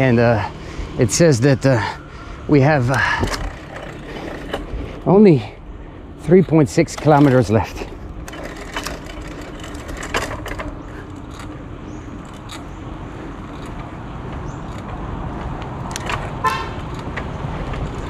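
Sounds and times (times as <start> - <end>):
road traffic: 0.0 - 18.0
vehicle engine running: 0.0 - 18.0.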